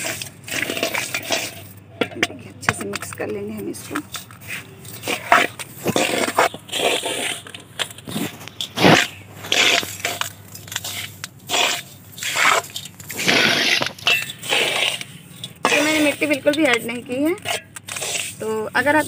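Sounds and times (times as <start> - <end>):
potting mix scraped in metal tub: 0.0 - 19.0.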